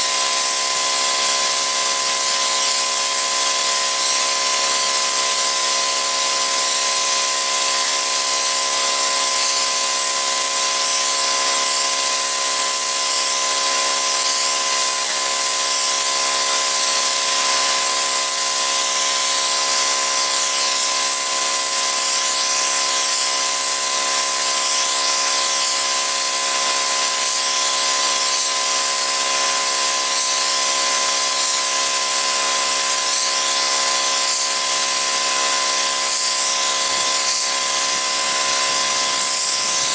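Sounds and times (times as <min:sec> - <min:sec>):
machine whine: 0:00.0 - 0:39.9
pressure washer jet hissing: 0:00.0 - 0:39.9.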